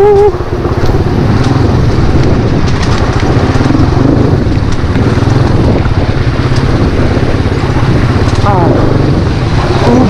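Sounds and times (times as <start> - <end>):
vehicle engine running: 0.0 - 10.0
wind buffeting microphone: 0.0 - 10.0.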